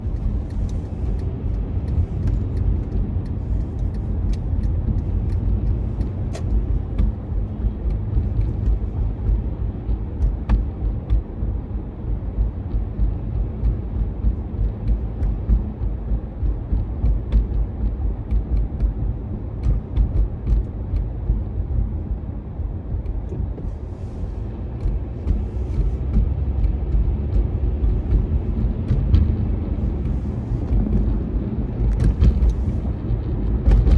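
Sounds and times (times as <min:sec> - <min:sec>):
car wash low rumble: 0:00.0 - 0:33.9.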